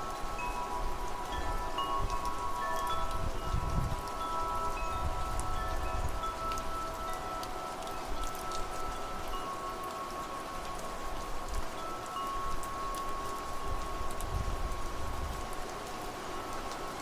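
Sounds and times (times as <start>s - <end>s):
steady rain: 0.0s - 17.0s
wind chimes ringing: 0.0s - 17.0s.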